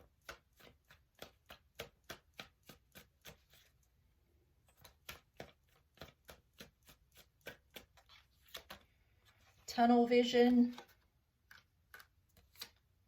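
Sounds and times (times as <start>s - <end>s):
cards being shuffled: 0.0s - 3.8s, 4.7s - 9.7s, 10.5s - 13.0s.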